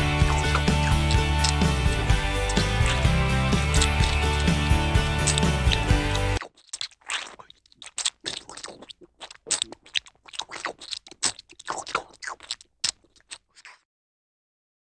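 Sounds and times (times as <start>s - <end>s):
baby monkey chewing crunchy food: 0.0s - 13.9s.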